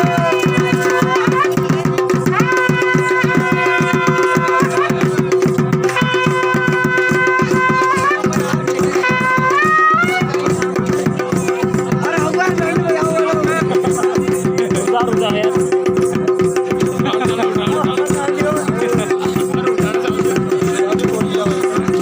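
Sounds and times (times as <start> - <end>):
fast even drumming: 0.0 - 22.0
piped melody: 0.0 - 22.0.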